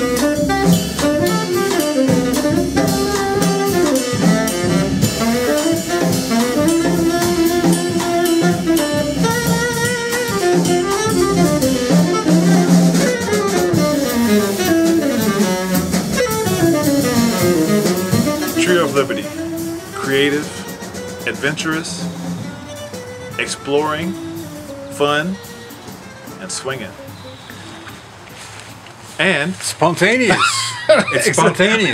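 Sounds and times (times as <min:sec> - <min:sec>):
double bass: 0:00.0 - 0:27.5
tenor saxophone melody: 0:00.0 - 0:28.6
drum kit with cymbals: 0:00.0 - 0:31.9.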